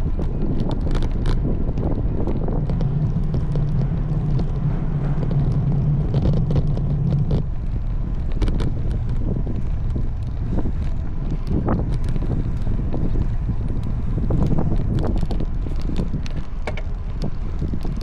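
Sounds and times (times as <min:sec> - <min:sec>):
light ticks: 0:00.0 - 0:18.0
low hum: 0:00.0 - 0:18.0
wind on microphone: 0:00.0 - 0:18.0.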